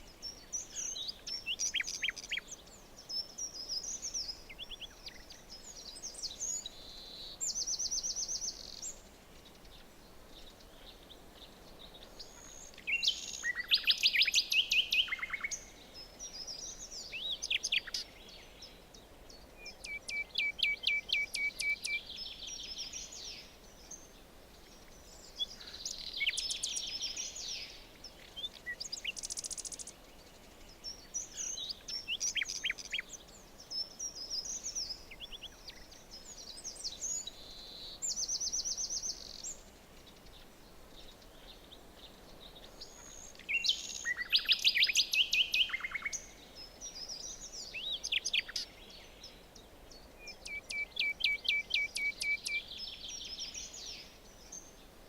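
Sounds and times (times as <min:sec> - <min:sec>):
faint ambient hiss: 0:00.0 - 0:55.0
songbirds singing: 0:00.0 - 0:55.0.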